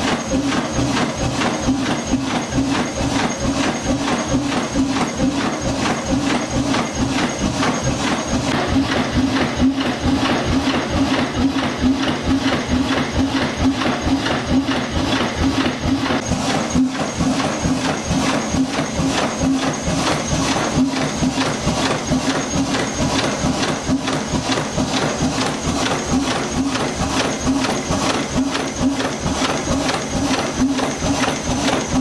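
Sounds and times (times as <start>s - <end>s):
marine engine knocking: 0.0s - 32.0s.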